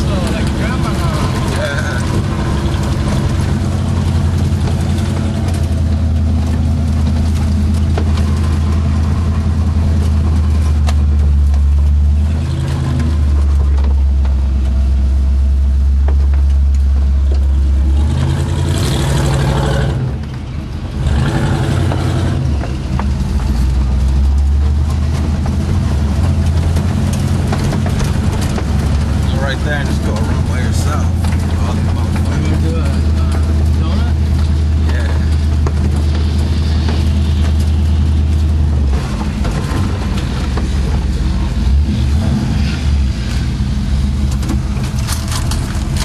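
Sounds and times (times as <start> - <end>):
engine running hard: 0.0 - 46.0.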